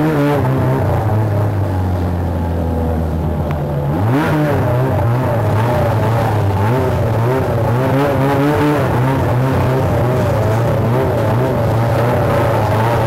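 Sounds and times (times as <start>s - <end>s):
snowmobile engine running fast: 0.0s - 13.0s.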